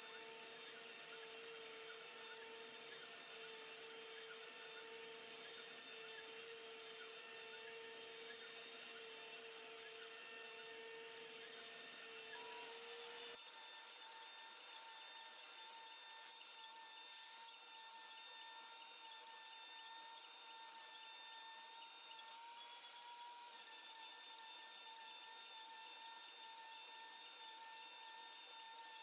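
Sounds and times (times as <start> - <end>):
router spindle whine: 0.0 - 29.0.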